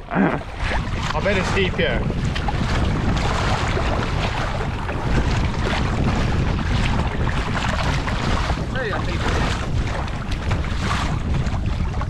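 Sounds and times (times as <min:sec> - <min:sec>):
choppy sea: 0:00.0 - 0:12.0
paddle splashing water: 0:00.0 - 0:12.0
wind buffeting microphone: 0:00.0 - 0:12.0.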